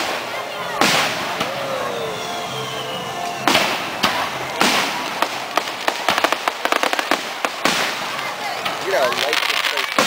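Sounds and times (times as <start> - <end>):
firework crackling pops: 0.0 - 1.7, 2.7 - 10.0.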